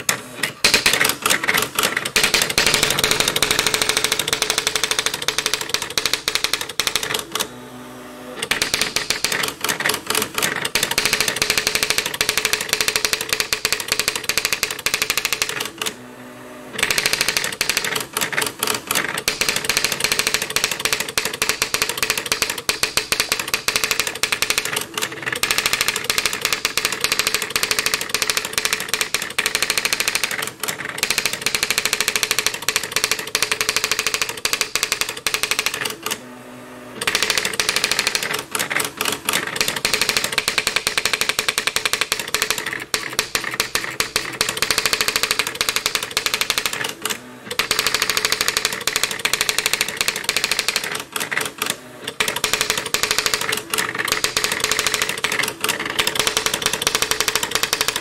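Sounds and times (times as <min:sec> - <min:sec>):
typewriter clacking: 0:00.0 - 0:07.5, 0:08.4 - 0:16.0, 0:16.8 - 0:36.2, 0:37.0 - 0:58.0.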